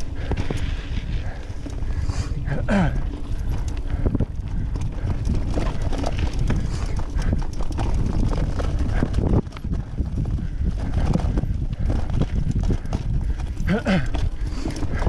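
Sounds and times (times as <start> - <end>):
bike clattering over rough dirt: 0.0 - 15.0
wind rumble on microphone: 0.0 - 15.0.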